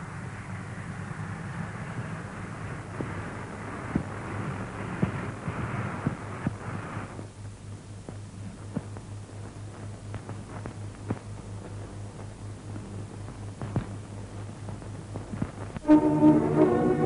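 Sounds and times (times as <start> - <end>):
film hiss: 0.0 - 17.0
pulsing low hum: 0.0 - 17.0
crackles and pops: 0.1 - 15.9.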